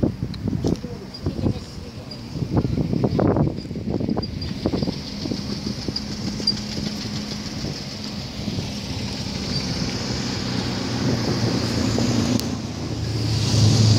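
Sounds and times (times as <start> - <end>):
car engine hum: 0.0 - 13.9
road noise: 0.0 - 13.9
wind noise: 0.0 - 13.9.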